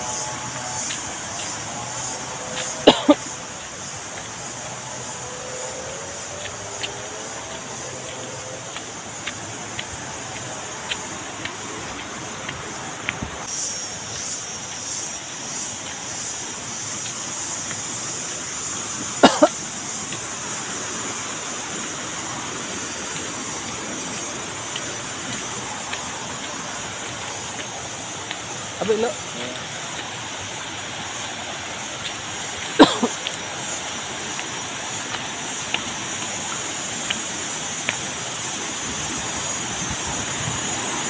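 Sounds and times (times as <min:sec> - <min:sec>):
footsteps crunching on dry leaves: 0:00.0 - 0:39.2
steady high hiss: 0:00.0 - 0:41.0
stream rushing: 0:00.0 - 0:41.0.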